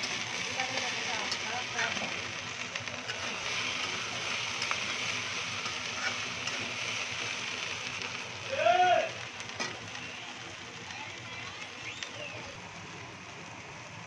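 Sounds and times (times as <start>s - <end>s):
okra sizzling in hot oil: 0.0s - 14.0s.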